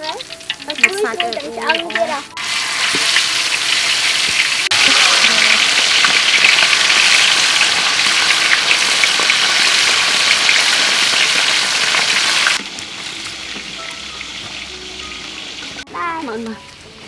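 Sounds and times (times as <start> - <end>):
fish deep-frying in hot oil: 0.0 - 17.0.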